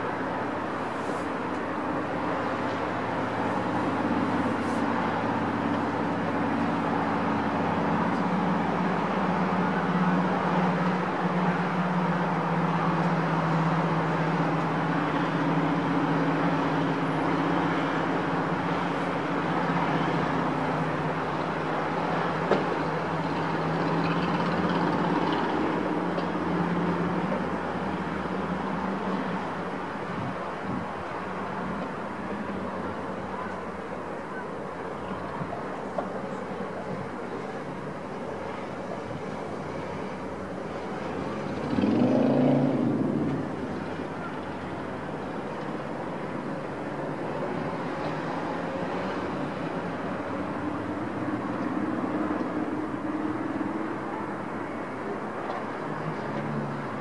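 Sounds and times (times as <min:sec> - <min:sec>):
distant road traffic: 0:00.0 - 0:57.0.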